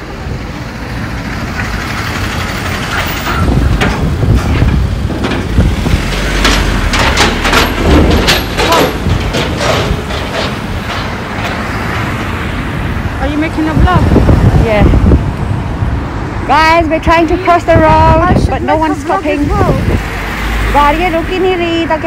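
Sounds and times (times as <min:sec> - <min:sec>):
tyre noise on wet street: 0:00.0 - 0:22.0.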